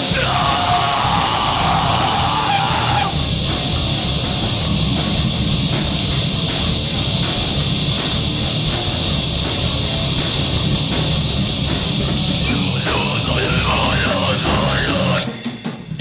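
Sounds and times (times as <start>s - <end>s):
distorted electric guitar: 0.0s - 15.5s
drums with steady beat: 0.0s - 16.0s.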